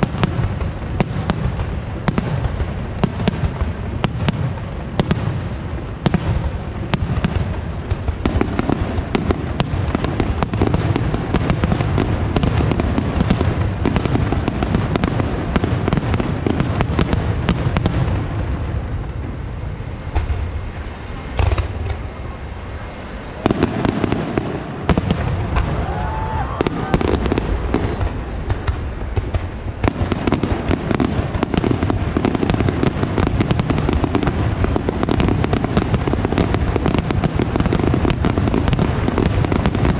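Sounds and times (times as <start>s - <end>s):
fireworks bursting: 0.0s - 39.9s
heavy firework boom: 0.0s - 39.9s.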